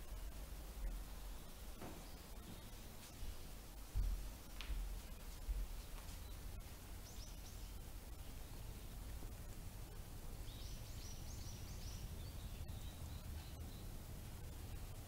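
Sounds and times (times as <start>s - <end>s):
small bird chirping: 0.0s - 3.6s, 4.4s - 15.0s
faint outdoor hum: 0.0s - 15.0s.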